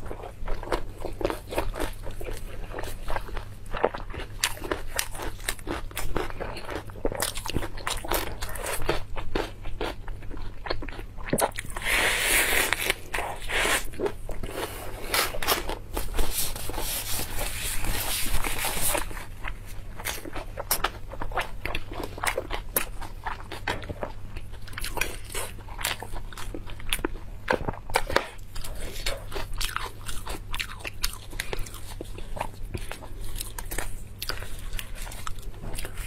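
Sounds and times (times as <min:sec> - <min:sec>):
crunchy chewing of leafy greens: 0:00.0 - 0:36.0.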